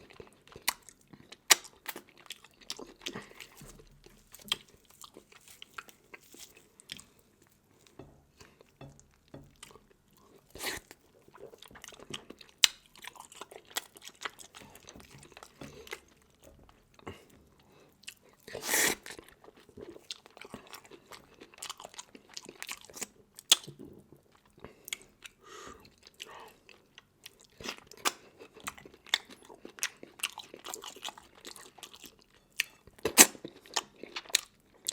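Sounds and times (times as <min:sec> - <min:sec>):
chewing with crunches: 0:00.0 - 0:34.9.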